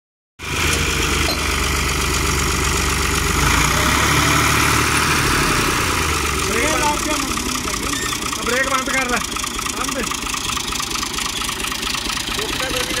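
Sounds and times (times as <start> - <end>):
tractor diesel engine idling: 0.4 - 13.0.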